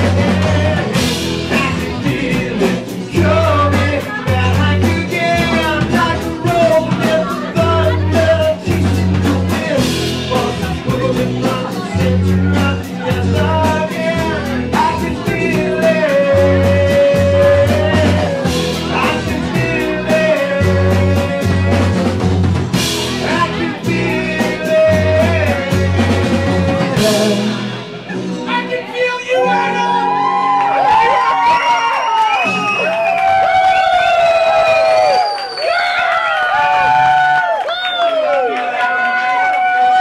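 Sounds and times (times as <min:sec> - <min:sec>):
live rock band playing: 0:00.0 - 0:35.2
bass guitar: 0:00.0 - 0:35.4.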